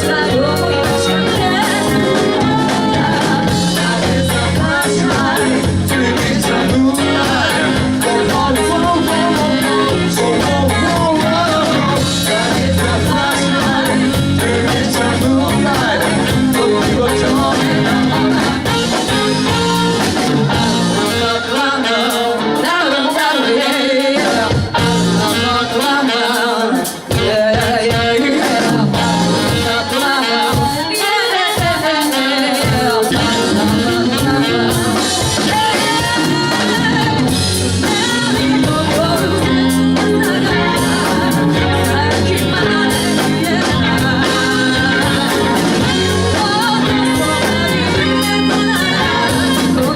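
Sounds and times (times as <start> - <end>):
live band playing: 0.0 - 49.9
person singing: 0.0 - 49.9.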